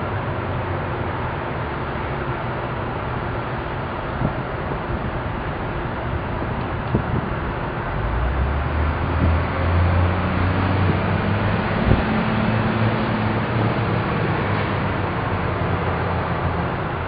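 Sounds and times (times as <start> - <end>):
traffic and engine rumble: 0.0 - 17.0.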